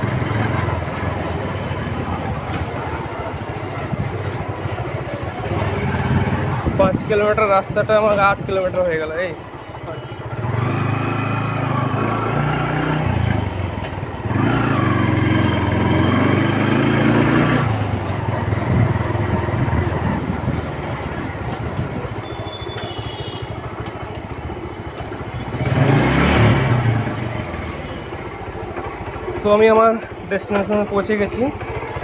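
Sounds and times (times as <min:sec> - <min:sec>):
small motorcycle engine running: 0:00.0 - 0:07.0, 0:10.0 - 0:32.0.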